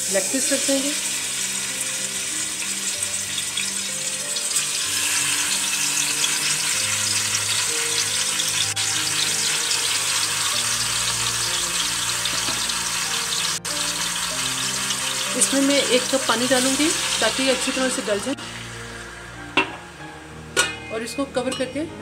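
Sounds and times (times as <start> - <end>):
chicken sizzling in hot oil: 0.0 - 20.7
soft background music: 0.0 - 22.0.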